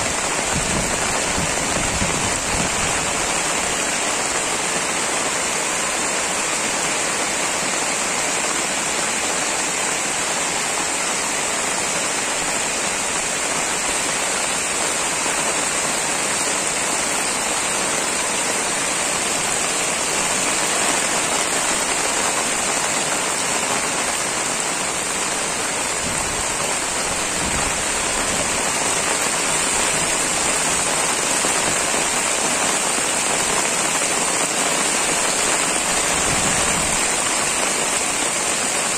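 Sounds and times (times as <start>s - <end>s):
heavy rain on standing water: 0.0s - 38.9s.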